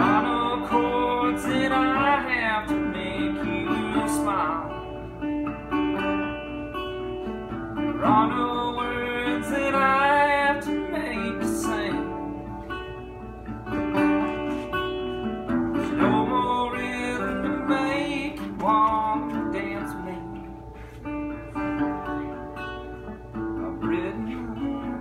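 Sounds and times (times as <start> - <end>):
resonator guitar fingerpicking: 0.0 - 25.0.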